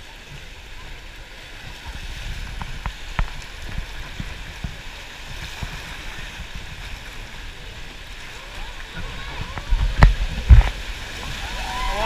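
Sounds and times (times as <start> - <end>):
river rapids rushing: 0.0 - 12.0
water slapping boat: 0.0 - 12.0.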